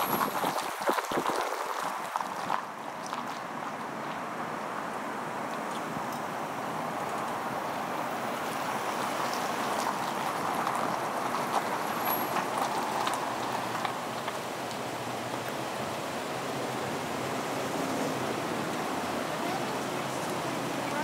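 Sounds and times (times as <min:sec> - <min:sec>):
car road and wind noise: 0:00.0 - 0:21.0
traffic passing: 0:00.0 - 0:21.0.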